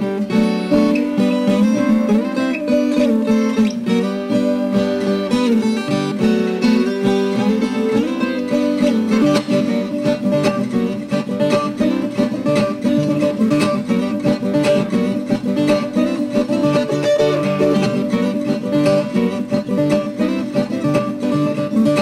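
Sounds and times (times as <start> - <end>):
plucked guitar melody: 0.0 - 22.0.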